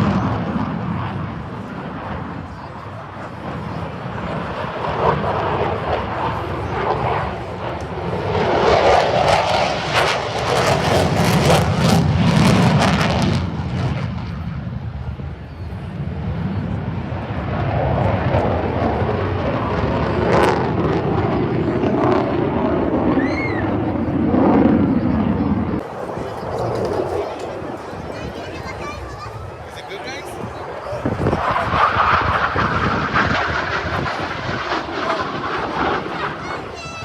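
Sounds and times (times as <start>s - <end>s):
airplane flying past: 0.0s - 37.0s.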